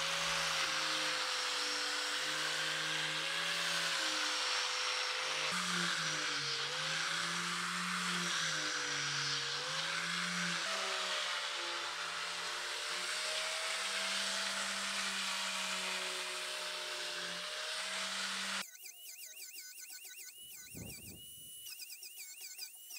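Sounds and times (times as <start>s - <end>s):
angle grinder sanding wood: 0.0s - 22.9s.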